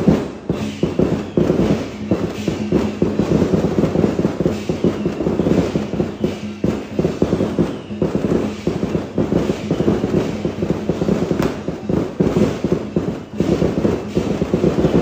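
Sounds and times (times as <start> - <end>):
cymbals: 0.0 - 15.0
fast drum beats: 0.0 - 15.0
gongs: 0.0 - 15.0.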